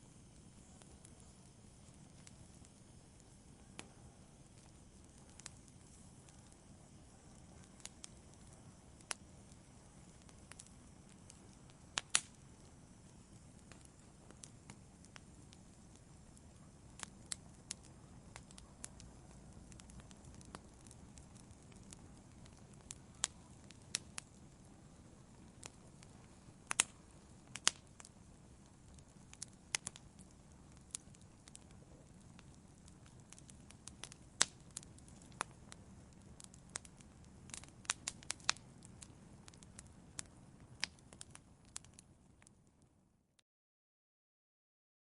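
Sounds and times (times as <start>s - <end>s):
low rush of flames: 0.0s - 43.1s
wood fire crackling and popping: 0.0s - 43.1s.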